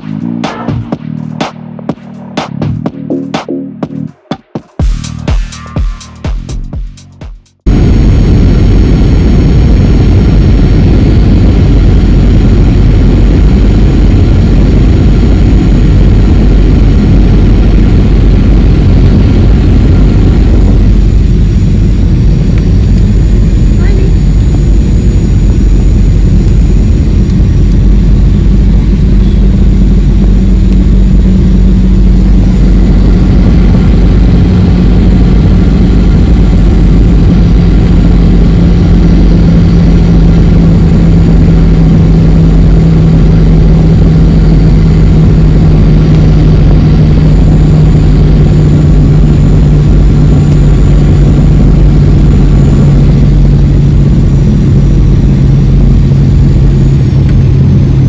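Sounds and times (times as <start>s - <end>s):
jet cabin engine hum: 7.6s - 58.0s.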